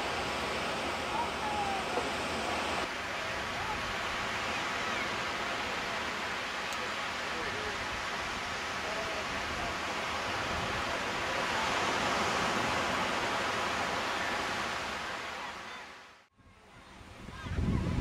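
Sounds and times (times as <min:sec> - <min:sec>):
surf breaking on a beach: 0:00.0 - 0:18.0.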